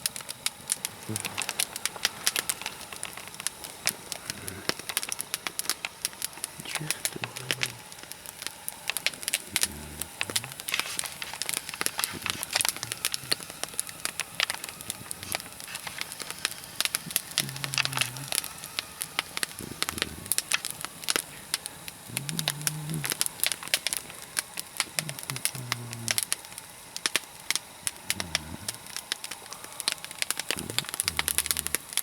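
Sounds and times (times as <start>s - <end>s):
log fire crackling: 0.0s - 32.0s
sharp pops of burning wood: 0.0s - 32.0s.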